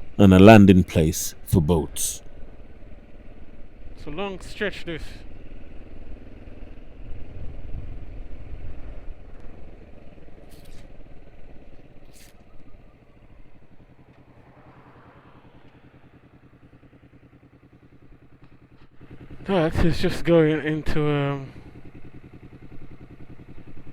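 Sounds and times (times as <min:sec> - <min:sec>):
motorcycle engine running: 0:02.3 - 0:23.9.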